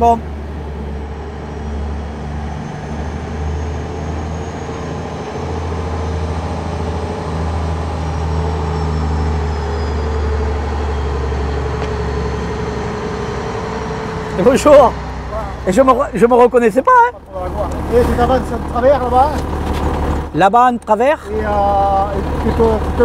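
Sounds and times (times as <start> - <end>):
lorry diesel engine rumbling: 0.0 - 23.0.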